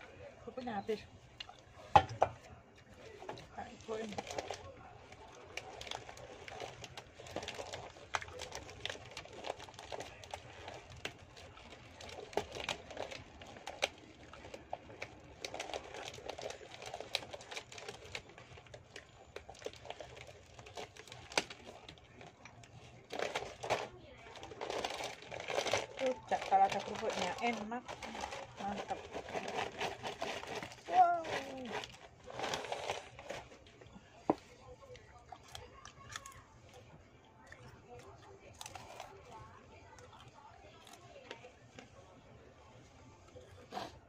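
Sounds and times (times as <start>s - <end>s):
crisp chewing crunches: 2.7s - 41.8s.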